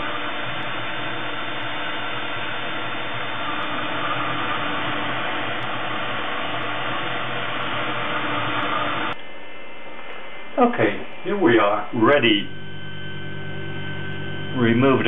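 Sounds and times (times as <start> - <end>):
milling machine spindle whirring: 0.0 - 9.2, 12.0 - 15.0
low hum: 0.0 - 15.0.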